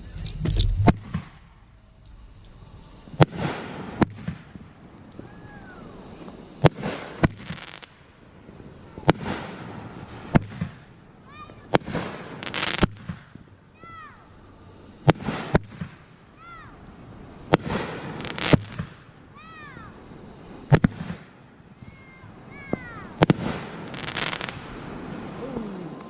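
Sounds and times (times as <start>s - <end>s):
firework bangs with crackling: 0.0s - 26.0s
firework whistles: 0.0s - 26.0s.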